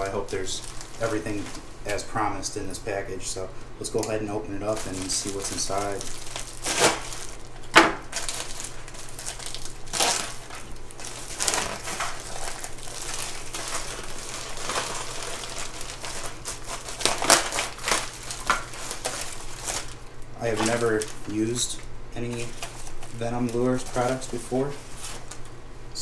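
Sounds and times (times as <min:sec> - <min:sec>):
plastic mailer crinkling: 0:00.0 - 0:25.6.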